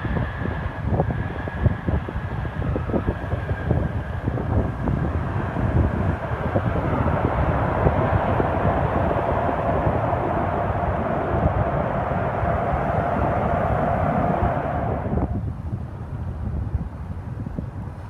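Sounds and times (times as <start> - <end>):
jet engine noise: 0.0 - 18.0
wind buffeting microphone: 0.0 - 18.0.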